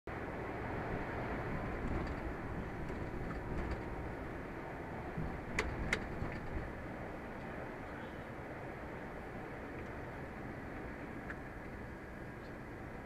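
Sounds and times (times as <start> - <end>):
vehicle road and engine noise: 0.1 - 13.0.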